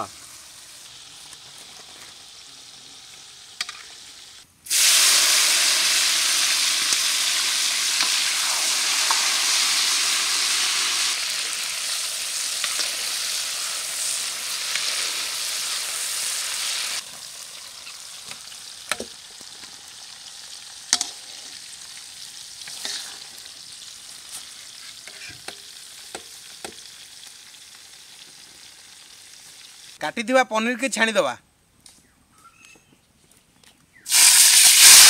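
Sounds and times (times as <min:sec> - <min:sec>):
vegetables deep-frying in oil: 0:00.0 - 0:30.0, 0:34.1 - 0:35.0.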